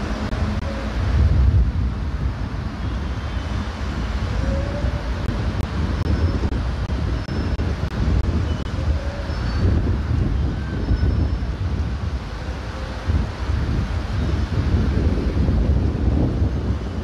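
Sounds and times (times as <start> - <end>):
distant road traffic: 0.0 - 17.0
wind buffeting microphone: 0.0 - 17.0.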